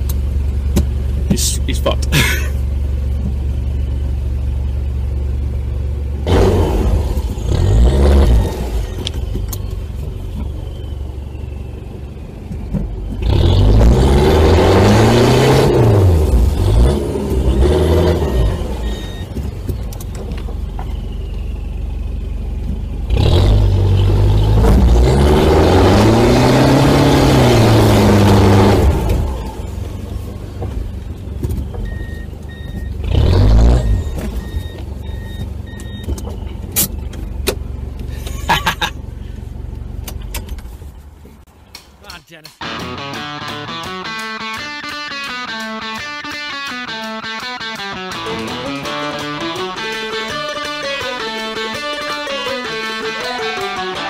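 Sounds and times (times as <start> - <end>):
pickup engine revving: 0.0 - 35.8, 42.6 - 54.0.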